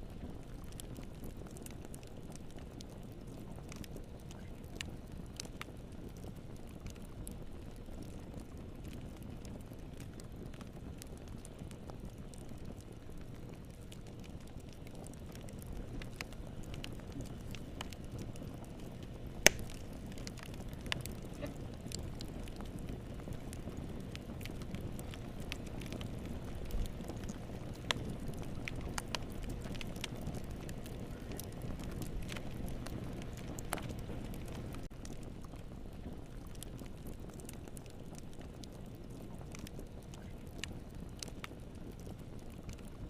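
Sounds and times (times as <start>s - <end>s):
fire crackling in a fireplace: 0.0s - 43.0s.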